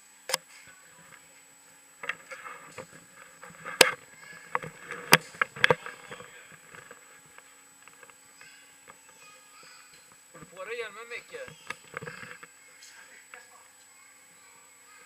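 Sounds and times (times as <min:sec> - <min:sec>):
rustling and scraping: 0:00.5 - 0:10.8, 0:11.4 - 0:13.5.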